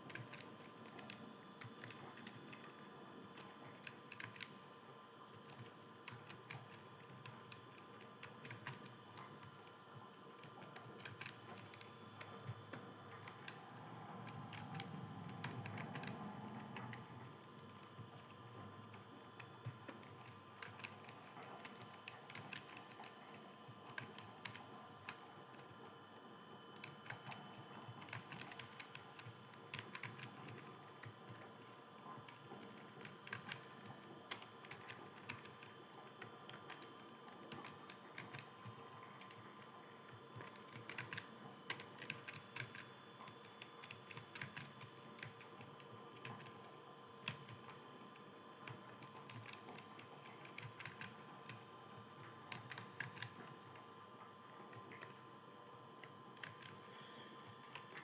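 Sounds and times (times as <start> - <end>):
fast typing on keyboard: 0.0 - 25.8, 26.7 - 53.9, 54.5 - 55.3, 56.0 - 56.9.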